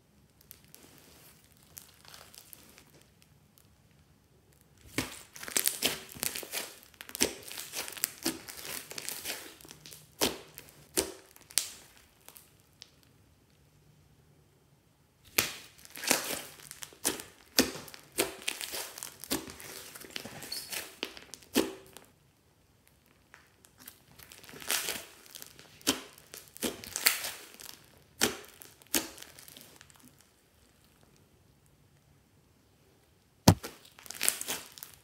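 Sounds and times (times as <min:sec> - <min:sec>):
hands squishing crackly slime: 0:00.3 - 0:13.1, 0:15.3 - 0:22.1, 0:22.8 - 0:31.2, 0:33.5 - 0:35.0.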